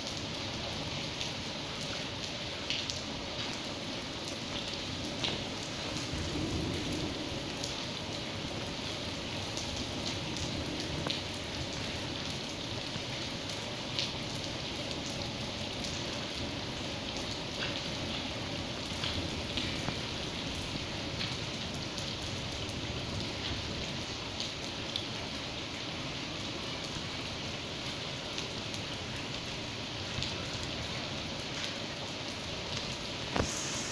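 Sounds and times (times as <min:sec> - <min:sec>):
rain on a tiled floor: 0:00.0 - 0:33.9.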